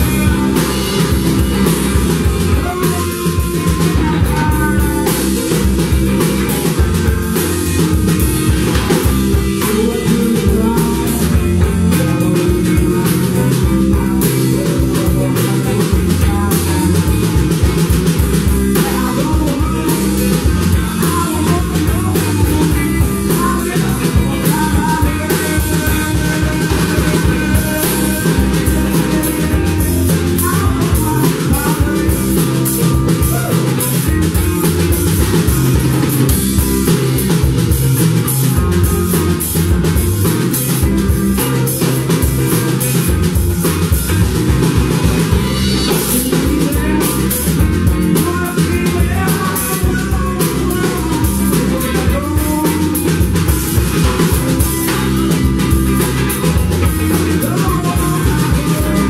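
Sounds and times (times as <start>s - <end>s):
blues-rock band playing: 0.0s - 59.0s
drum-kit beat: 0.0s - 59.0s
electric guitars: 0.0s - 59.0s.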